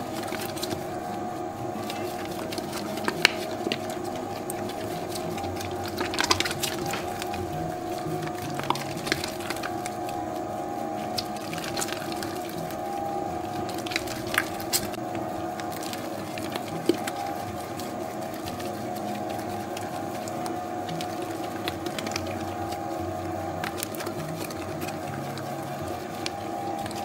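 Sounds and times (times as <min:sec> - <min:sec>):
dough mixer motor humming: 0:00.0 - 0:27.0.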